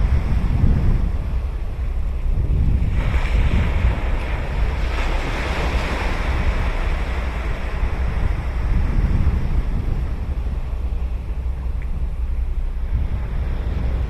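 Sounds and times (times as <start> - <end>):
ocean surf breaking: 0.0 - 14.0
wind rumble on microphone: 0.0 - 14.0.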